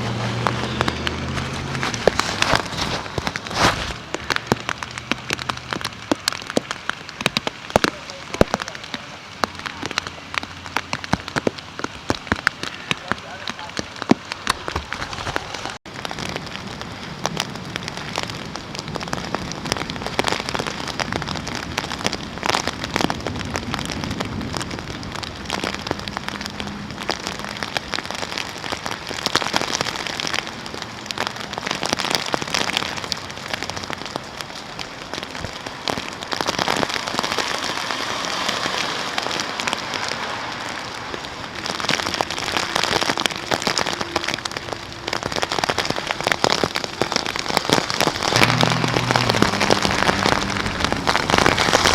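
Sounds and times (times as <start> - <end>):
heavy rain falling: 0.0 - 51.9
raindrops ticking close by: 0.0 - 51.9.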